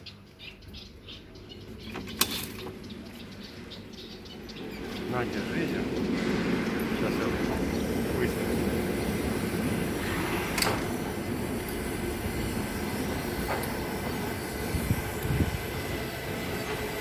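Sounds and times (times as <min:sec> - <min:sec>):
train rumbling past: 0:01.0 - 0:17.0.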